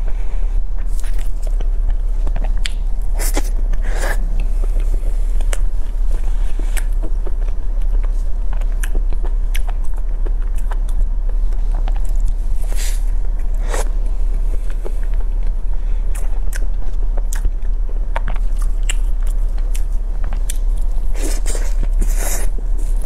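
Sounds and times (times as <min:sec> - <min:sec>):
crackly rustles: 0:00.0 - 0:23.0
steady low hum: 0:00.0 - 0:23.0
wet chewing and mouth clicks: 0:00.8 - 0:23.0.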